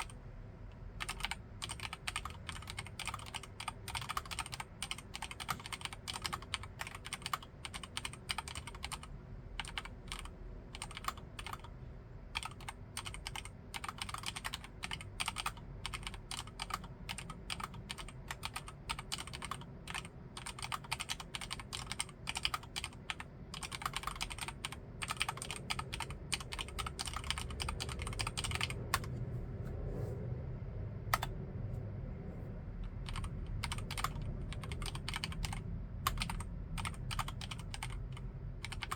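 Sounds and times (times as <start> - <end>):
typing on mechanical keyboard: 1.0 - 11.7, 12.4 - 29.1, 32.9 - 38.9.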